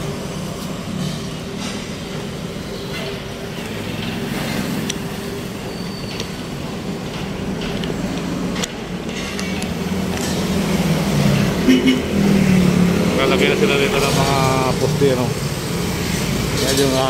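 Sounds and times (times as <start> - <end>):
road noise: 0.0 - 17.0
vehicle engines running: 0.0 - 17.0.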